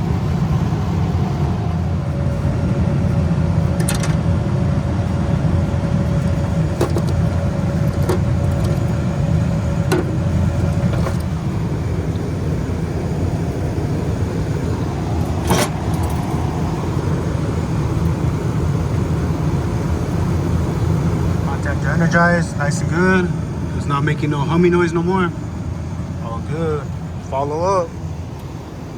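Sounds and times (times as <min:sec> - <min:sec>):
condensing unit droning: 0:00.0 - 0:28.9.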